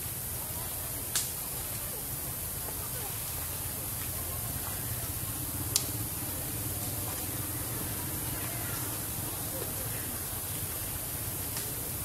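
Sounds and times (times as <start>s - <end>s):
faint voices: 0.0s - 12.0s
outdoor background hiss: 0.0s - 12.0s.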